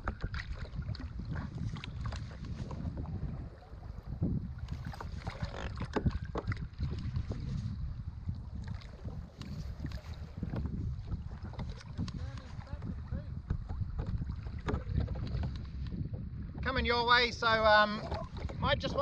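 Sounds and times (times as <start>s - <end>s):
water against kayak: 0.0s - 19.0s
wind buffeting microphone: 0.0s - 19.0s.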